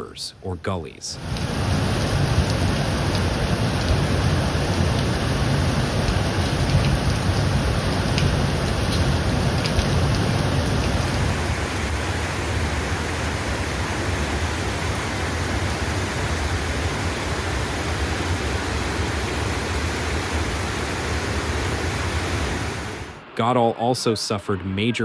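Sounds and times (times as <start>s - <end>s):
rushing water with low rumble: 0.0s - 25.0s.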